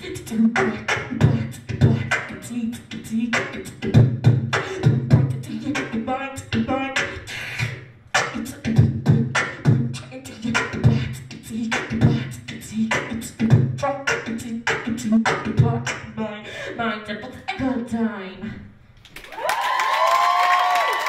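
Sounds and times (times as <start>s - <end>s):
woman beatboxing: 0.0s - 18.6s.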